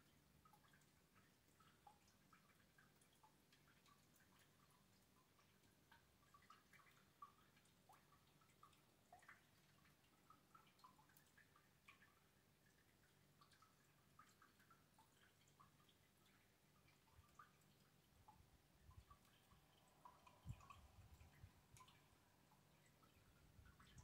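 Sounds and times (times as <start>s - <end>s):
faint low hum: 0.0s - 24.0s
rain dripping: 0.0s - 24.0s.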